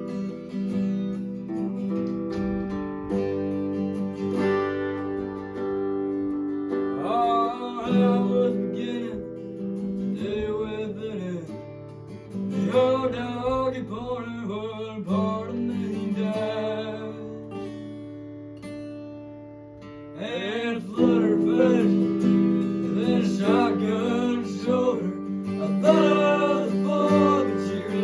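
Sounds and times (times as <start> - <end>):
acoustic guitar strumming chords: 0.0 - 28.0
sliding lead guitar melody: 0.0 - 28.0.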